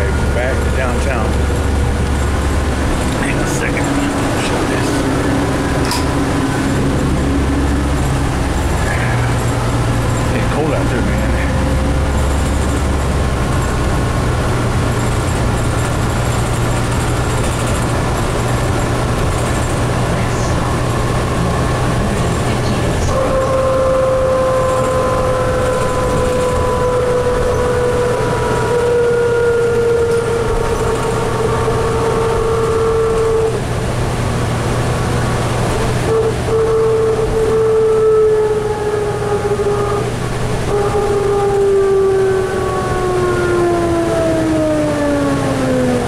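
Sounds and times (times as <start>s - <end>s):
bus engine rumble: 0.0s - 46.0s
road noise: 0.0s - 46.0s.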